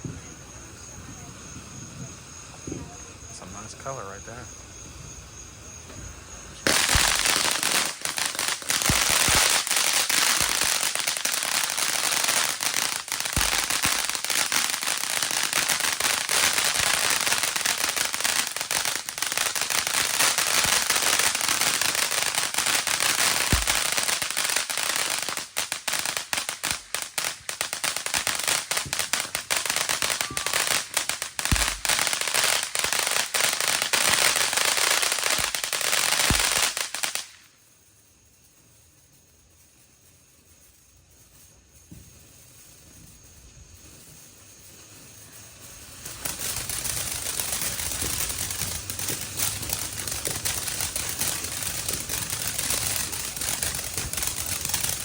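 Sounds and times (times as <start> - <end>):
firework fountain crackling: 0.0 - 55.0.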